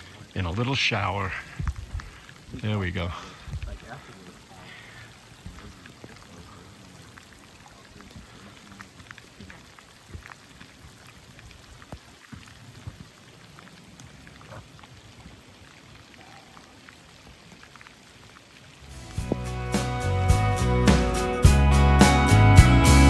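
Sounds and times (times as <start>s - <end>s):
raindrops ticking: 0.0s - 20.2s
light rain hissing: 0.0s - 23.0s.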